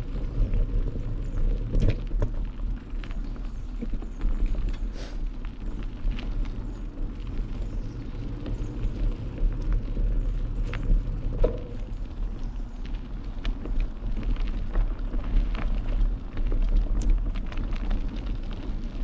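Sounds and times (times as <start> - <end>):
bike clicking and rattling: 0.0 - 19.0
wind and tyre rumble: 0.0 - 19.0.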